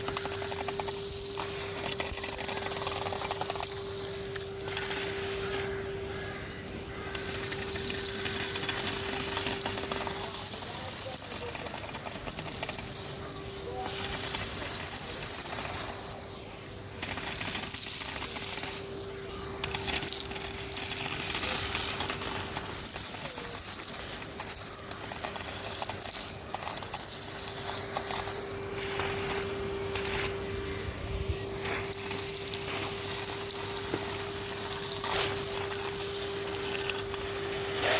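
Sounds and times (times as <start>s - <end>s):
debris clattering up vacuum hose: 0.0s - 37.9s
vacuum cleaner running: 0.0s - 37.9s.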